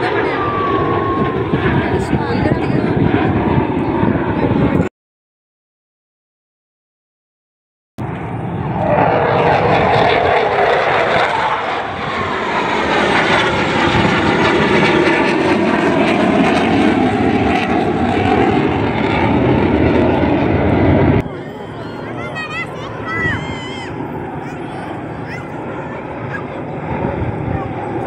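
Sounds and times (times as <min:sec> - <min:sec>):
fighter jet engine roar: 0:00.0 - 0:04.9, 0:08.0 - 0:28.0.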